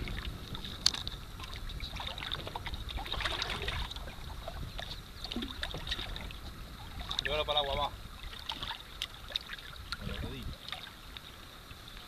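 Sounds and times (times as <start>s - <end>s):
wind on microphone: 0.0s - 11.0s
small water splashes: 0.0s - 12.0s.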